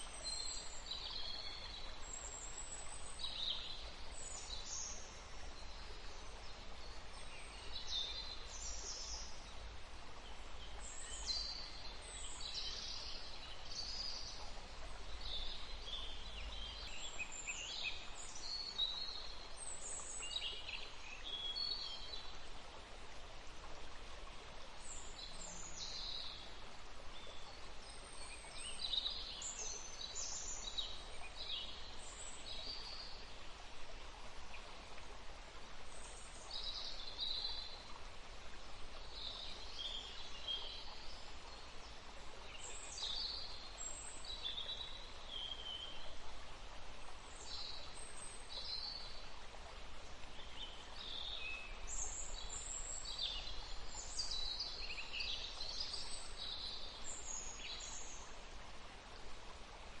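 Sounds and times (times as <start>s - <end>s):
songbirds chirping: 0.0s - 60.0s
stream flowing: 0.0s - 60.0s.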